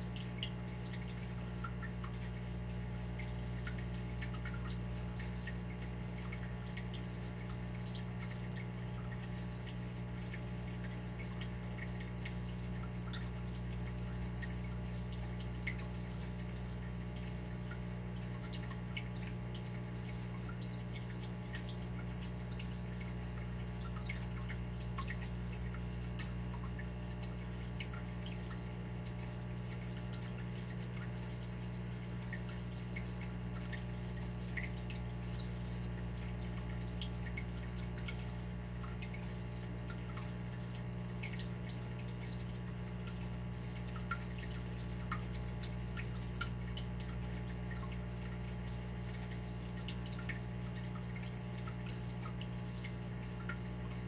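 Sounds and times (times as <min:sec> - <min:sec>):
water dripping and trickling: 0:00.0 - 0:54.0.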